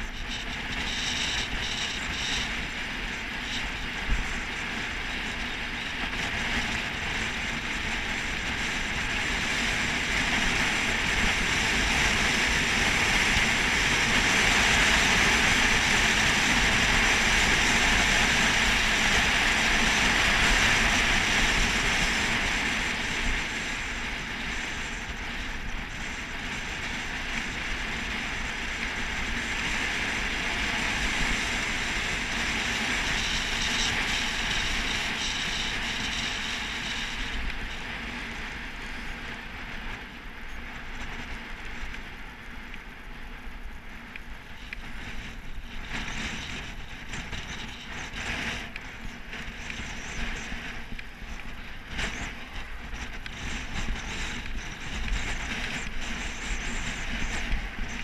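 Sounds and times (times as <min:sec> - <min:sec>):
bicycle road noise: 0:00.0 - 0:58.0
wind rushing over microphone: 0:00.0 - 0:58.0.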